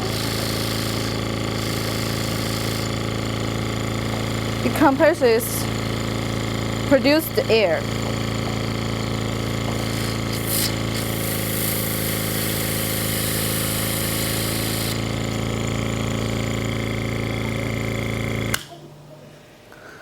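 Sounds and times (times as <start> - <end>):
air hissing: 0.0 - 18.6
compressor humming: 0.0 - 19.6.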